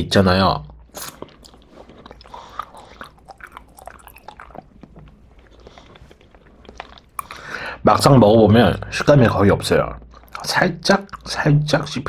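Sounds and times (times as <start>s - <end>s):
soft chewing mouth sounds: 0.6s - 7.8s, 8.8s - 12.0s.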